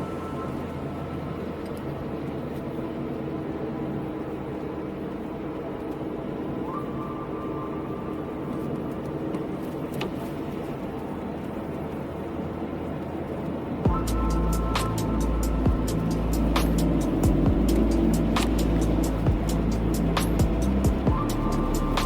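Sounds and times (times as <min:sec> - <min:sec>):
car driving on wet road: 0:00.0 - 0:22.0.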